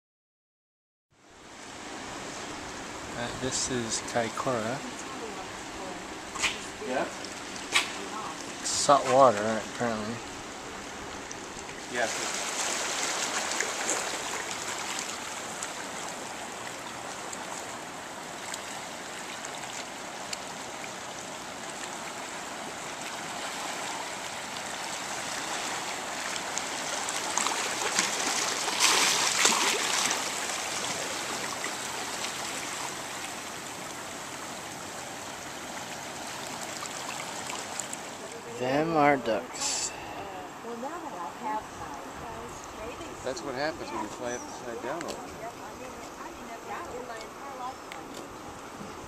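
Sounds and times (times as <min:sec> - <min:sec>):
water lapping among rocks: 0:01.6 - 0:49.0.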